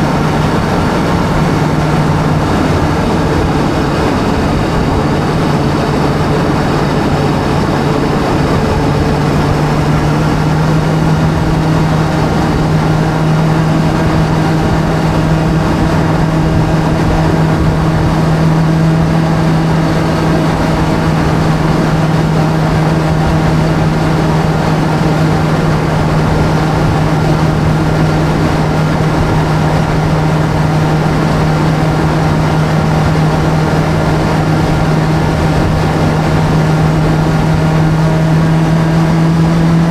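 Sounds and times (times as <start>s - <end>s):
video game motorbike engine: 0.0s - 39.9s.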